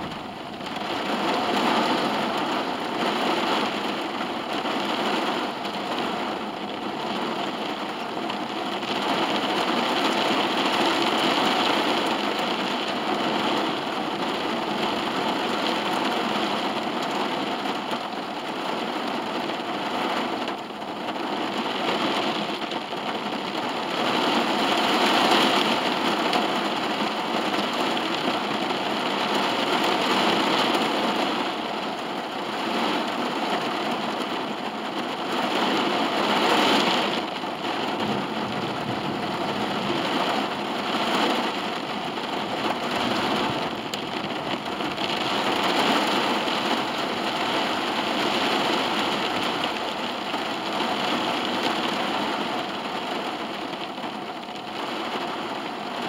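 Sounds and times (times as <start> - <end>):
rain on car roof: 0.0 - 56.0.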